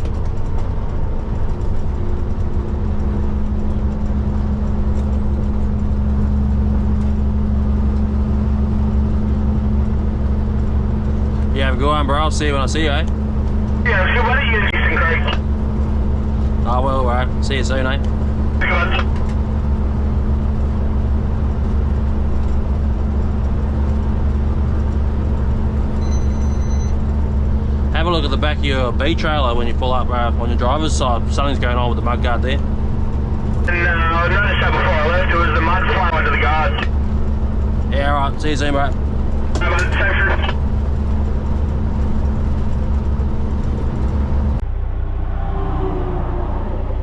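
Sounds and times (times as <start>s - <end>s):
diesel engine drone inside truck cab: 0.0s - 47.0s.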